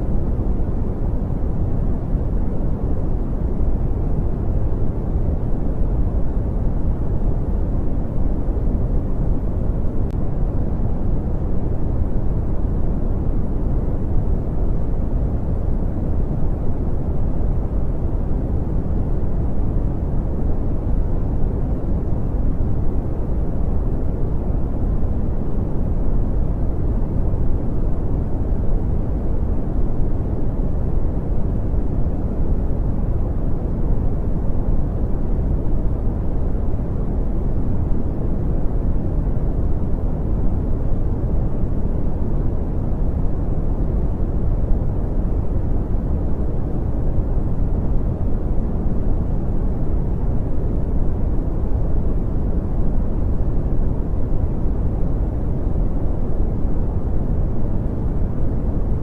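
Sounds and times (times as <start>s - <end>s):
deep rumbling brown noise: 0.0s - 59.0s.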